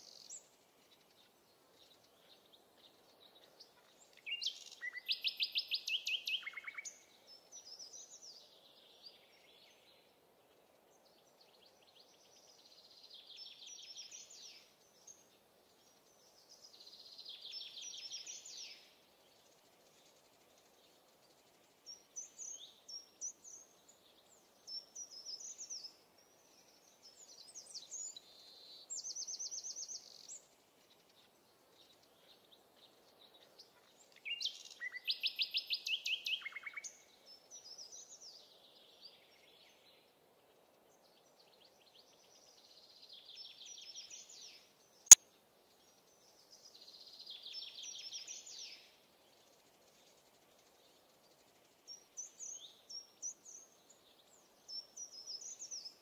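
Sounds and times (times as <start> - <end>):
faint steady hiss: 0.0 - 56.0
songbirds singing: 0.0 - 56.0.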